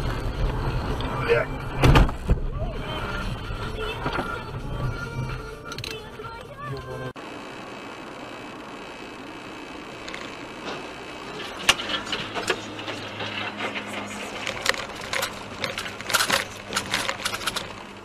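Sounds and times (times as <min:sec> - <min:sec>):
knocks and rattles on rough road: 0:00.0 - 0:06.8, 0:09.8 - 0:18.0
engine hum: 0:00.0 - 0:18.0.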